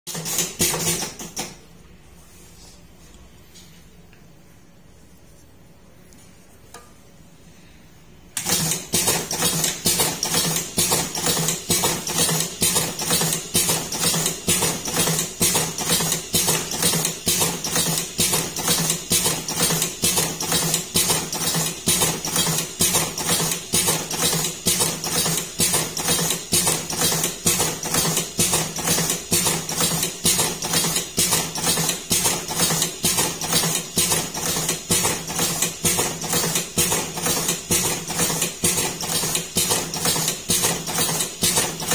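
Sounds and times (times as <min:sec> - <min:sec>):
rapid regular machine clacking: 0:00.1 - 0:01.6, 0:08.4 - 0:41.9.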